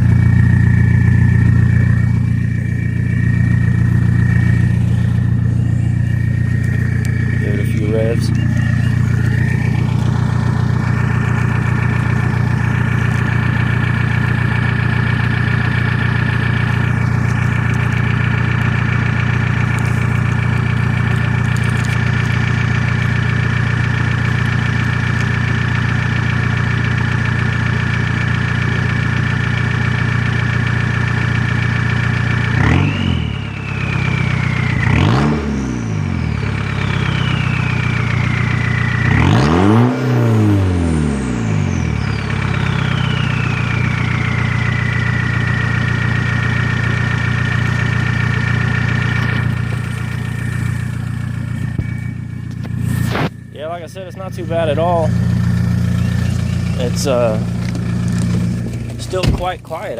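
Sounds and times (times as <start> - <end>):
diesel engine idling: 0.0 - 59.9
engine revving: 0.0 - 59.9.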